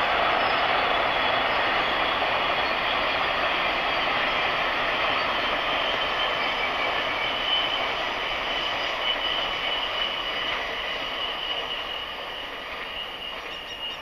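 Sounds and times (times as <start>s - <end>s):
train wagons rumbling on rails: 0.0s - 14.0s.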